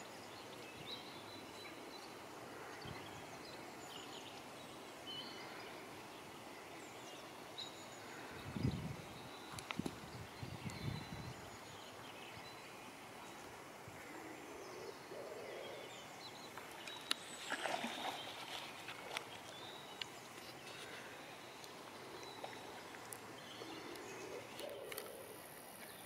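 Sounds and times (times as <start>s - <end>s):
background hiss: 0.0s - 26.0s
small birds chirping: 0.0s - 26.0s.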